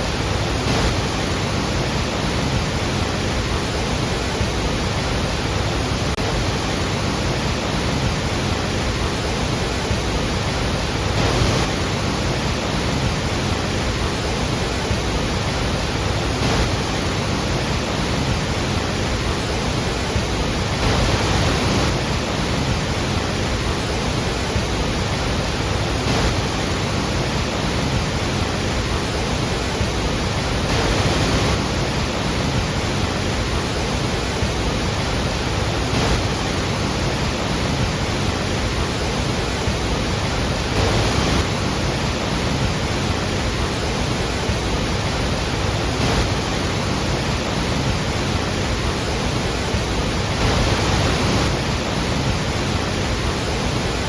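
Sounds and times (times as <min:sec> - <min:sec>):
large waterfall rushing: 0:00.0 - 0:54.0.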